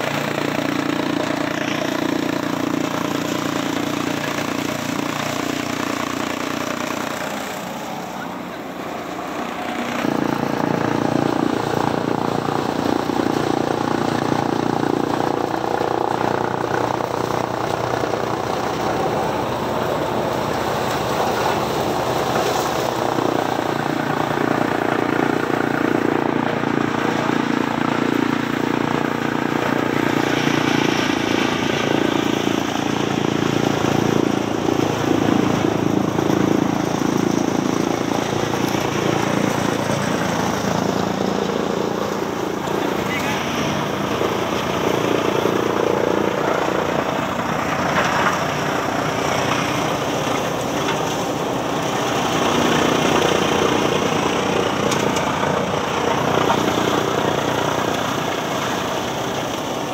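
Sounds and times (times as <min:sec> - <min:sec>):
chaff cutter chopping stalks: 0:00.0 - 0:59.9.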